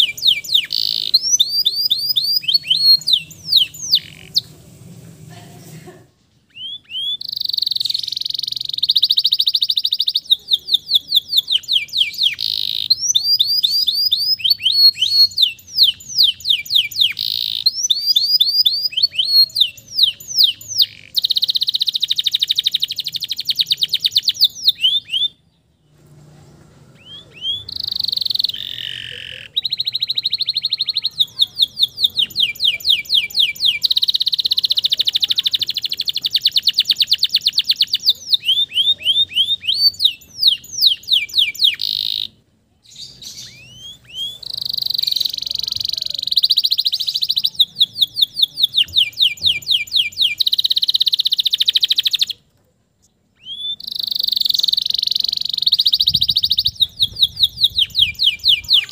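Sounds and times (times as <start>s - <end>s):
canary singing: 0.0s - 5.1s, 6.4s - 58.9s.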